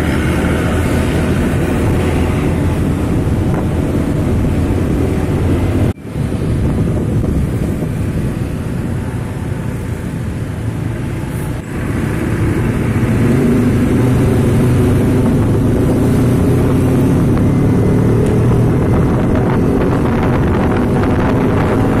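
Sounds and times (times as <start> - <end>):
bus diesel engine droning: 0.0 - 22.0
wind buffeting microphone: 0.0 - 22.0.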